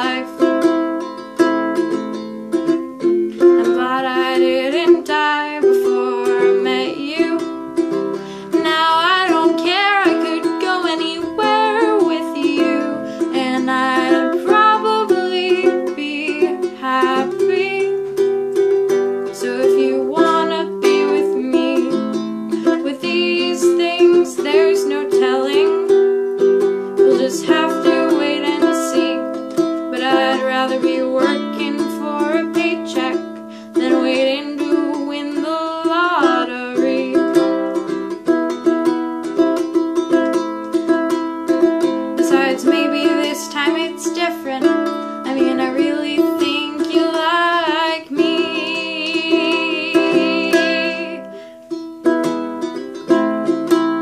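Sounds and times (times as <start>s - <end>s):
ukulele strumming chords: 0.0s - 54.0s.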